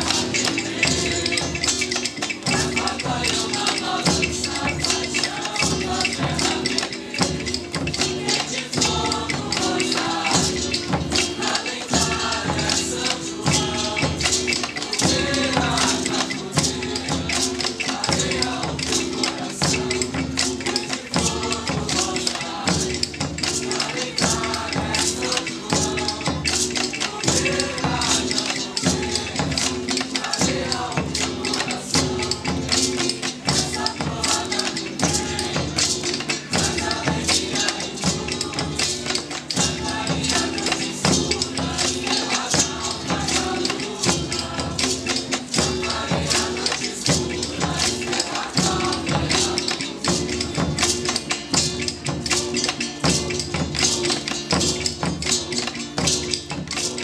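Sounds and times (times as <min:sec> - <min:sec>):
percussion ensemble playing: 0:00.0 - 0:57.0
tambourine jingles: 0:00.0 - 0:57.0.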